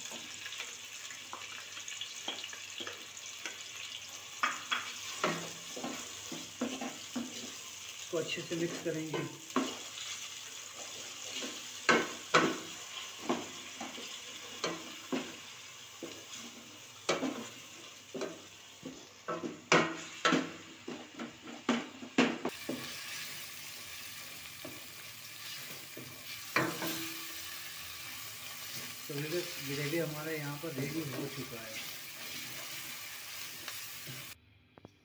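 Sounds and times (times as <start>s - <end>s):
frying sizzle: 0.0s - 34.4s.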